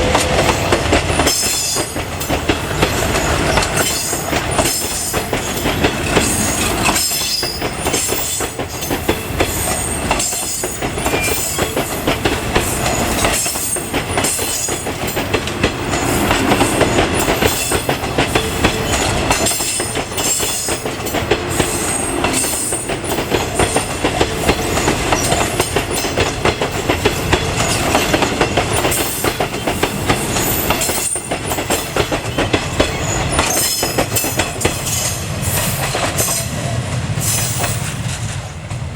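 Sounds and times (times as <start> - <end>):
train wheel squeal: 0.0 - 38.3
train wheels clattering on rails: 0.0 - 38.9.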